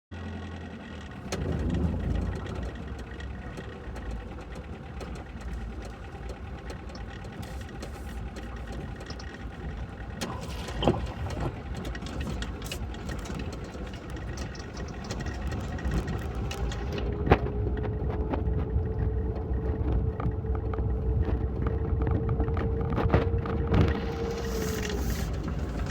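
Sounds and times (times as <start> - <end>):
car engine and road noise: 0.1 - 25.9.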